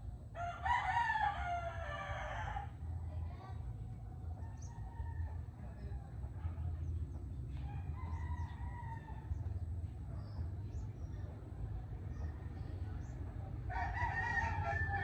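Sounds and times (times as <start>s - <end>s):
steady low rumble: 1.5s - 15.0s.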